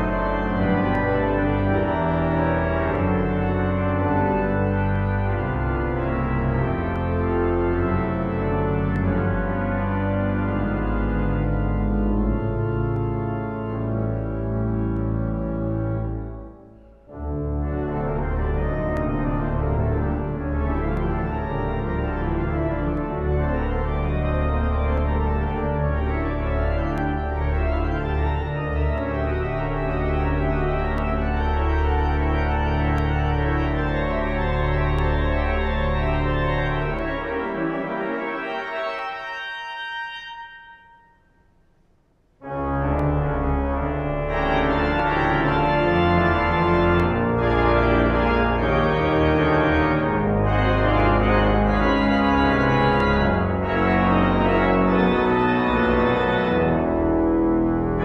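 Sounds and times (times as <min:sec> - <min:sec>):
deep organ pedal bass: 0:00.0 - 0:39.5, 0:42.4 - 0:58.0
church organ chords: 0:00.0 - 0:41.5, 0:42.4 - 0:58.0.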